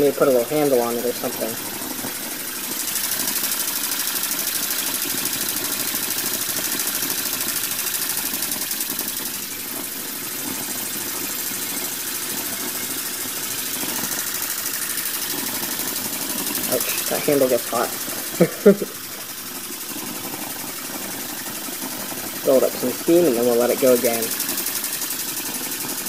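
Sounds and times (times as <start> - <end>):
escaping steam hissing: 0.0 - 26.0
steam engine beating: 0.0 - 26.0.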